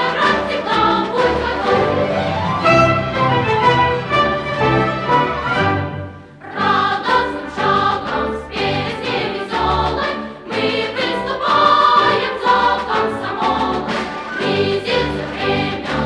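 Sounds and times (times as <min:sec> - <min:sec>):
choir singing: 0:00.0 - 0:16.0
instrumental accompaniment: 0:00.0 - 0:16.0.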